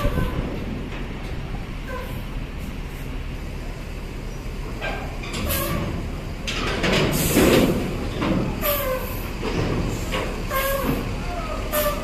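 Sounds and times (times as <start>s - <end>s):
diesel buses running: 0.0s - 12.0s.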